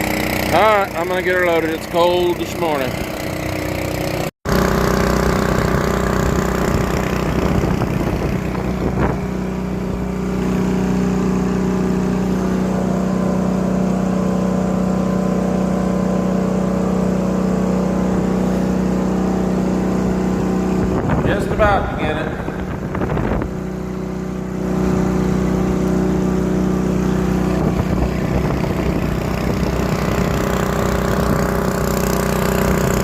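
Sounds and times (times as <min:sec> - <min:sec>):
pump engine running: 0:00.0 - 0:33.0.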